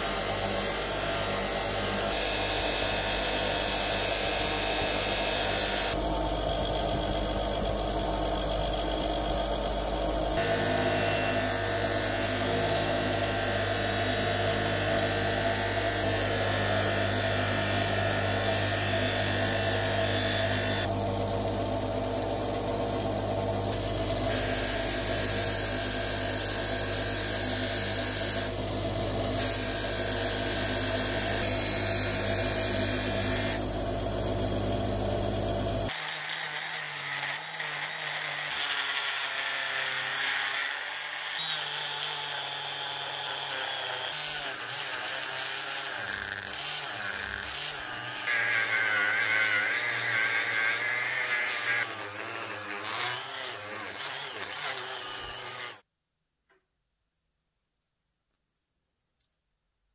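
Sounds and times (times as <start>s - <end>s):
bench grinder motor hum: 0.0s - 55.8s
rotary tool whine: 0.0s - 55.8s.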